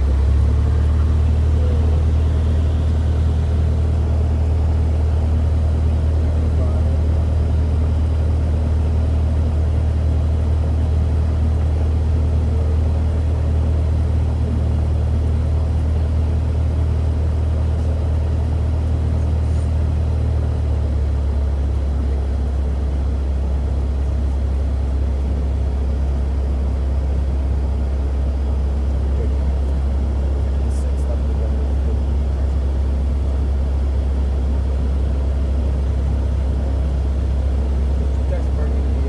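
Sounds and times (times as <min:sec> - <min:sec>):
propeller plane engine drone: 0:00.0 - 0:39.0.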